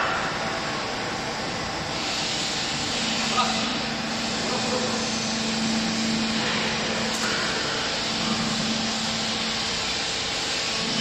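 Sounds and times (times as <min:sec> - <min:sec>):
hydraulic motor and pump running: 0:00.0 - 0:11.0.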